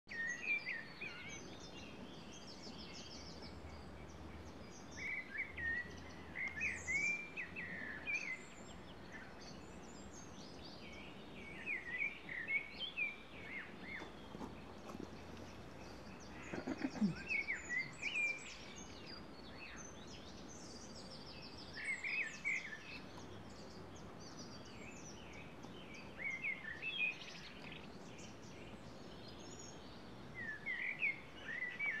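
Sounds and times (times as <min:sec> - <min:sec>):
songbirds chirping: 0:00.0 - 0:32.0
steady low background noise: 0:00.1 - 0:32.0.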